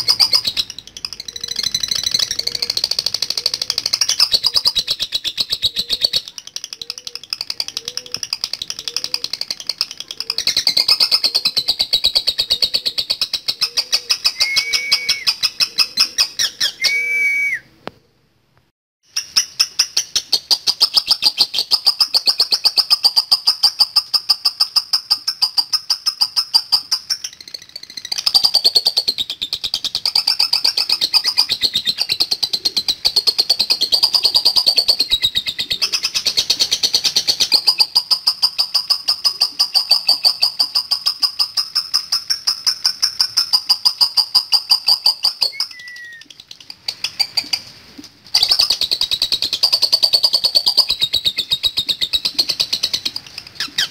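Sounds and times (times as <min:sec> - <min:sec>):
lovebird chattering trill: 0:00.0 - 0:17.1, 0:19.1 - 0:47.7, 0:48.3 - 0:53.9.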